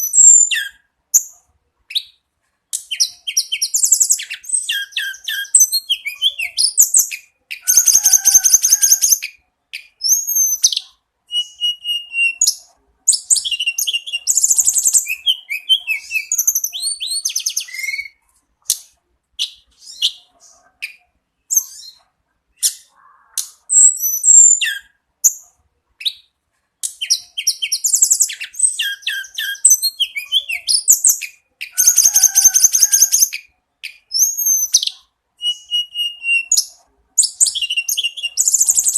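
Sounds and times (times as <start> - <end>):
bird singing trills and whistles: 0.0 - 1.3, 2.8 - 38.9.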